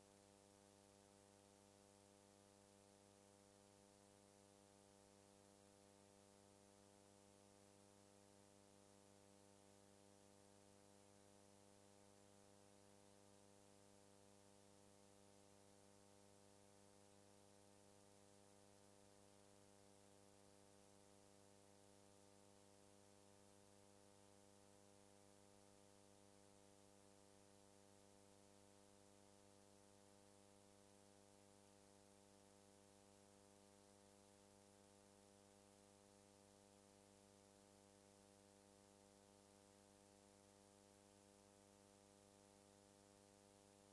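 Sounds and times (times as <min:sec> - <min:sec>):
faint steady hum and hiss: 0:00.0 - 0:43.9.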